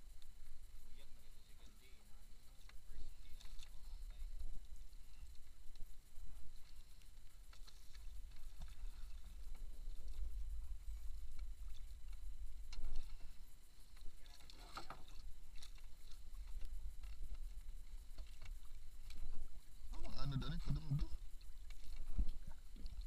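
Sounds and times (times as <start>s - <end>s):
water lapping against boat: 0.0s - 23.0s.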